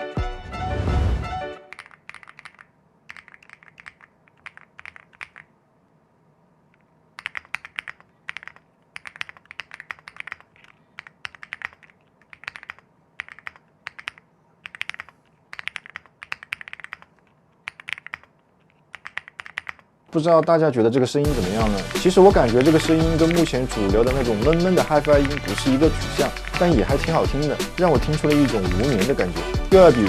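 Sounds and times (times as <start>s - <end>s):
mechanical keyboard typing: 1.6s - 5.5s, 7.2s - 19.8s, 21.6s - 29.2s.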